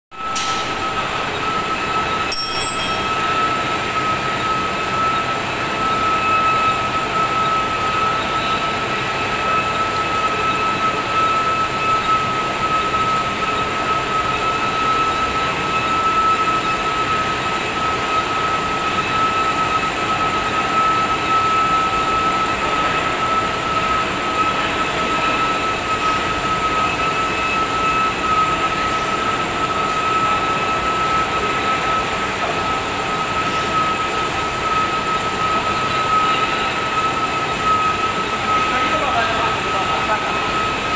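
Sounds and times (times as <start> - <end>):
high-pitched machine whine: 0.1 - 40.9
machine hiss and hum: 0.2 - 40.9.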